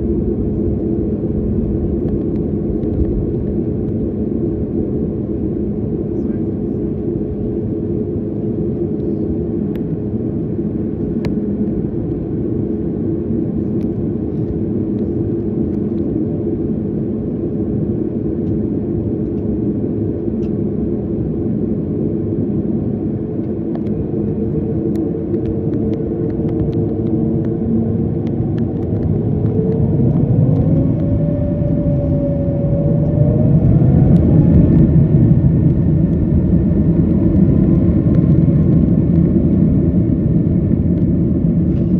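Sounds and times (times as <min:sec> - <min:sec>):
jet engines heard from cabin: 0:00.0 - 0:41.9.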